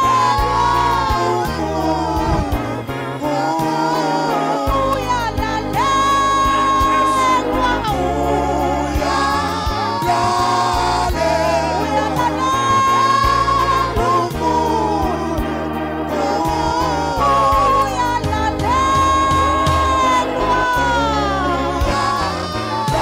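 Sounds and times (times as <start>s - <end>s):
congregation singing along: 0.0s - 23.0s
instrumental accompaniment: 0.0s - 23.0s
lead singer on microphone: 0.0s - 23.0s.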